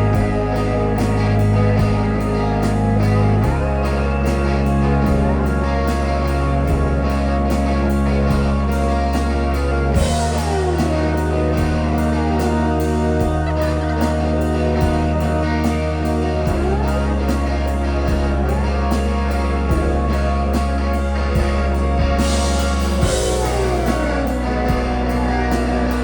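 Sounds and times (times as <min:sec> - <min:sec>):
band playing psychedelic rock: 0:00.0 - 0:26.0.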